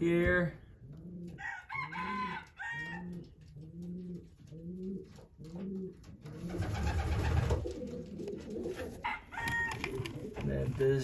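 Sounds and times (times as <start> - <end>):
pigeons cooing: 0.7 - 10.5.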